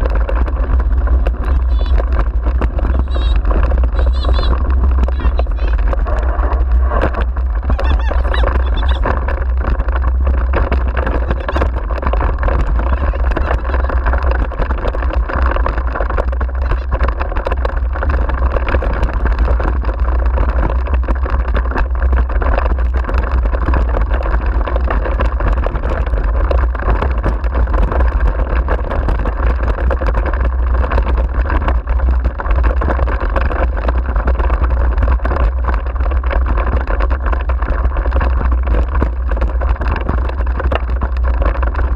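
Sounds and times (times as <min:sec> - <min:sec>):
cart wheels rolling over rough track: 0:00.0 - 0:41.9
knocks and rattles of cart: 0:00.0 - 0:41.9
wind buffeting microphone: 0:00.0 - 0:41.9.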